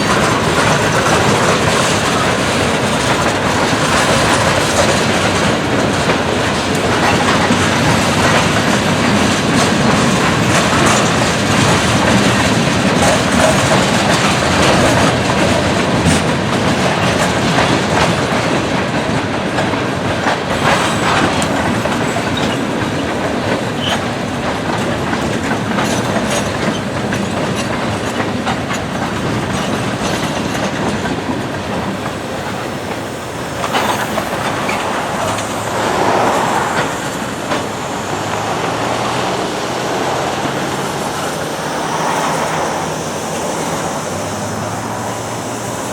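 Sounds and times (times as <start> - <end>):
steel wheels rumbling on rail: 0.0 - 45.9
wheels clicking over rail joints: 0.0 - 45.9.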